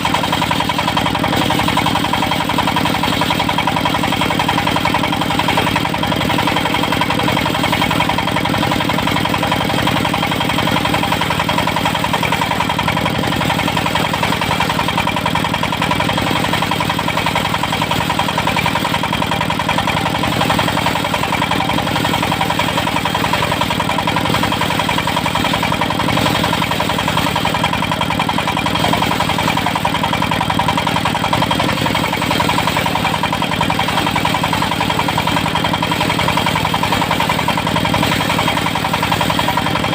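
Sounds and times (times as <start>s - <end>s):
engine-driven sawmill running: 0.0s - 39.9s.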